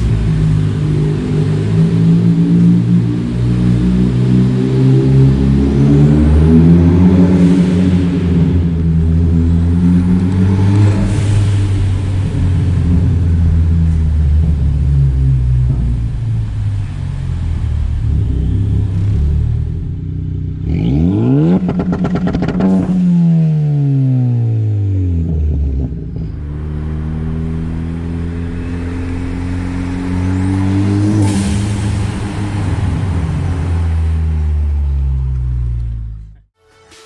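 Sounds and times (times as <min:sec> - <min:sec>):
car engine revving: 0:00.0 - 0:36.4.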